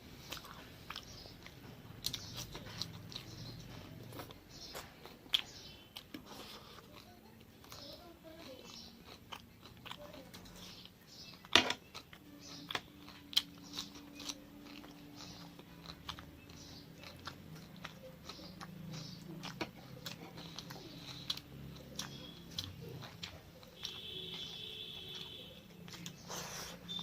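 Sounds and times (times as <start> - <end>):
person chewing: 0.0 - 27.0.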